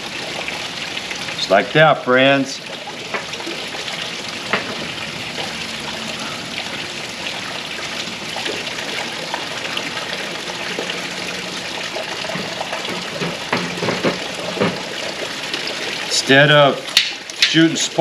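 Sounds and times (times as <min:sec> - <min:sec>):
trickle of running water: 0:00.0 - 0:18.0.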